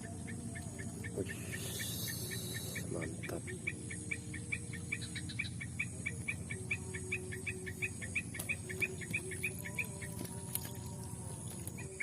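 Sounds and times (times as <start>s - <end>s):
faint high insect-like whine: 0.0s - 12.0s.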